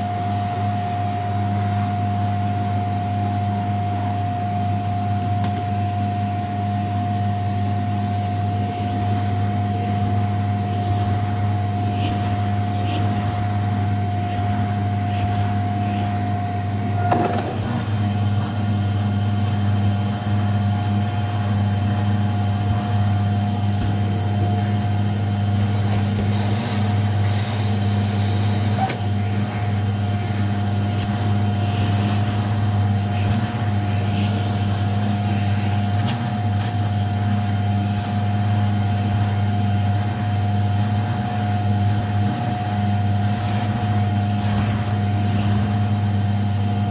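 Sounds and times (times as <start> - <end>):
vacuum cleaner running on carpet: 0.0 - 46.9.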